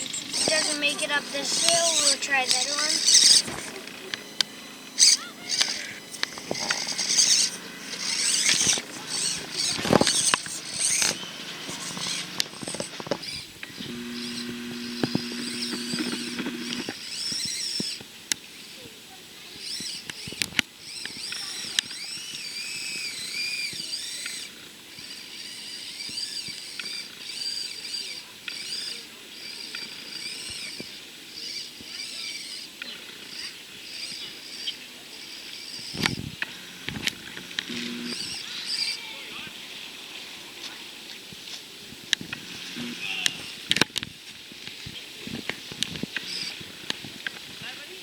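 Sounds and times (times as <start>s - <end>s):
small electric motor whining: 0.0s - 48.0s.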